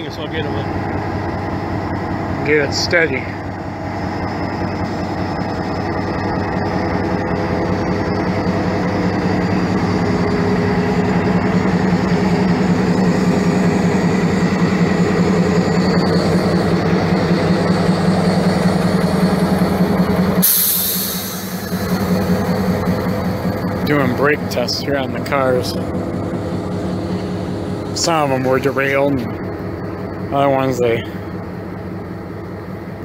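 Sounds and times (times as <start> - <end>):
diesel locomotive idling: 0.0 - 33.0.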